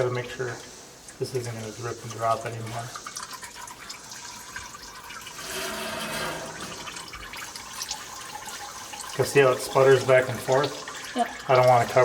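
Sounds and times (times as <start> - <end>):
oil pouring into a bucket: 0.0 - 12.0.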